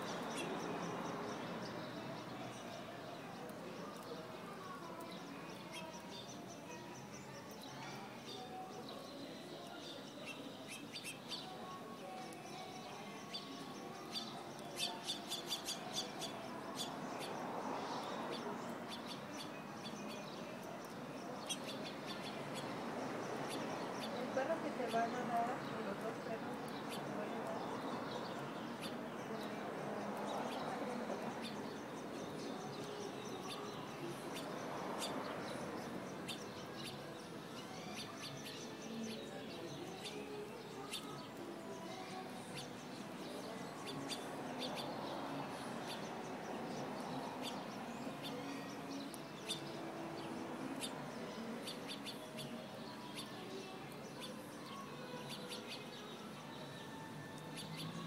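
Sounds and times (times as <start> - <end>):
outdoor background rush: 0.0 - 58.0
small birds chirping: 0.0 - 58.0.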